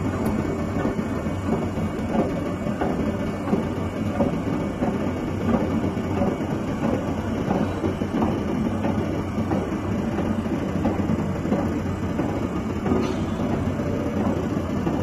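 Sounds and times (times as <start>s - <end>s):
forming machine humming: 0.0s - 15.0s
rhythmic machine clatter: 0.0s - 15.0s.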